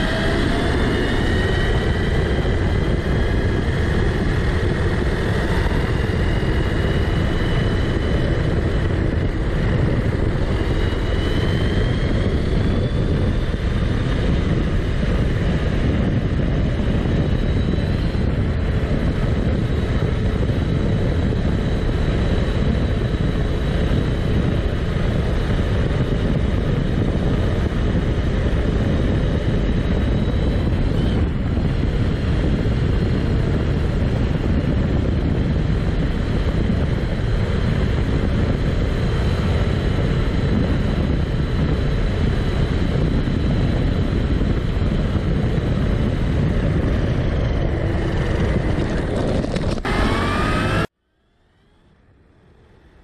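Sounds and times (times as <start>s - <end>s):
electric motor whine: 0.0s - 53.0s
wind and tyre noise: 0.0s - 53.0s.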